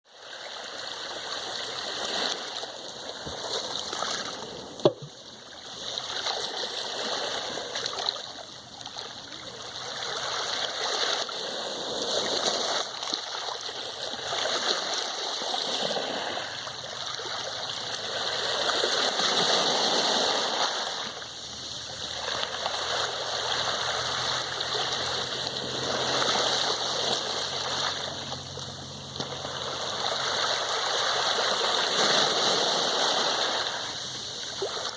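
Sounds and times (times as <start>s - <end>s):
sea waves washing: 0.2s - 34.9s.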